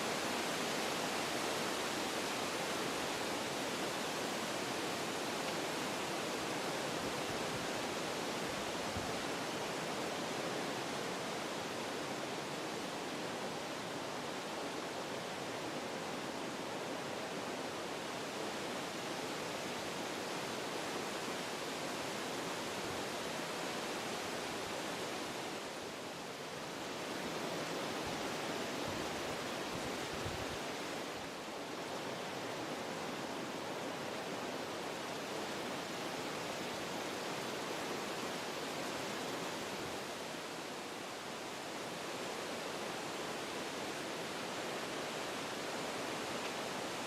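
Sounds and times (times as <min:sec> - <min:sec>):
wind through trees: 0:00.0 - 0:47.0.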